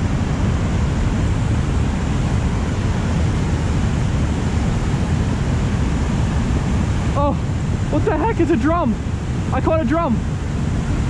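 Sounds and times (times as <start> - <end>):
river water rushing over a dam: 0.0 - 11.0.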